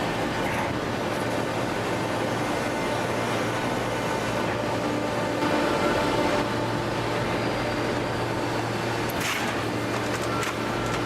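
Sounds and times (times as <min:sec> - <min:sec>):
baler mechanical hum: 0:00.0 - 0:11.0.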